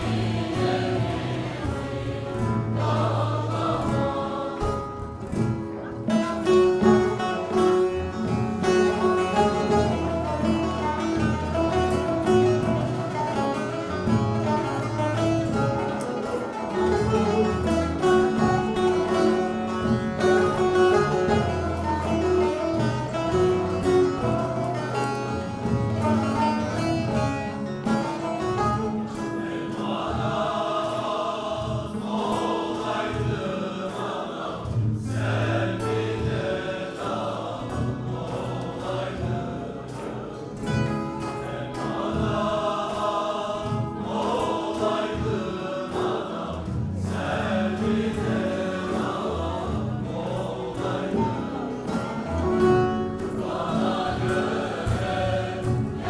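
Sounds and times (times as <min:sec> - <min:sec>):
choir singing folk song: 0:00.0 - 0:56.0
instrumental accompaniment: 0:00.0 - 0:56.0.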